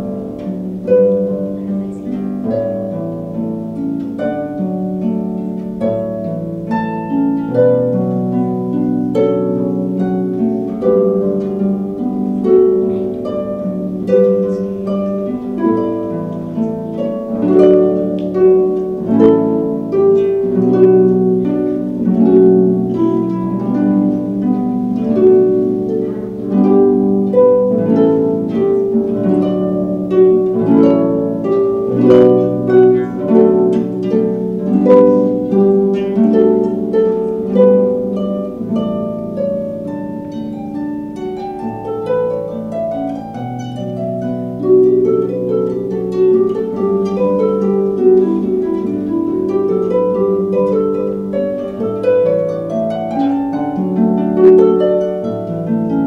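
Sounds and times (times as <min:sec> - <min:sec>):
harp plucked notes and chords: 0:00.0 - 0:56.0.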